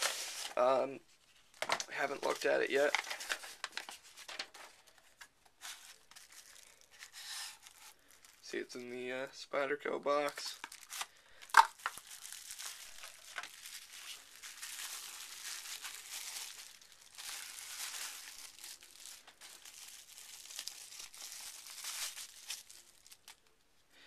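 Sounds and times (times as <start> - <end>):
plastic packaging crinkling: 0.0 - 8.8, 10.0 - 23.5.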